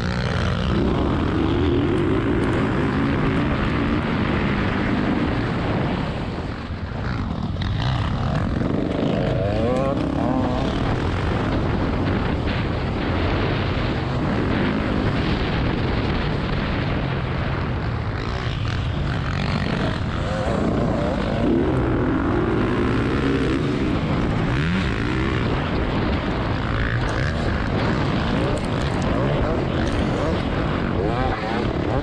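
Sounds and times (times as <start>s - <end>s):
dirt bike engine running hard: 0.0s - 32.0s
other dirt bike engines: 0.0s - 32.0s
wind rush on microphone: 0.0s - 32.0s.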